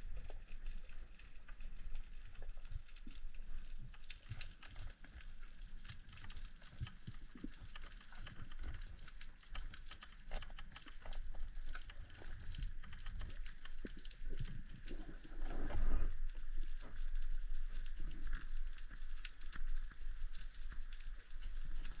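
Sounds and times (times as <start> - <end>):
low underwater rumble: 0.0 - 22.0
underwater crackle of clicks: 0.0 - 22.0.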